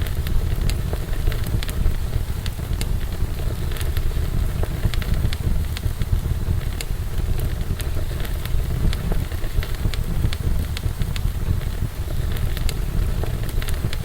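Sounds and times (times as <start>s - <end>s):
fire crackling and popping: 0.0s - 14.0s
fire flames rushing: 0.0s - 14.0s.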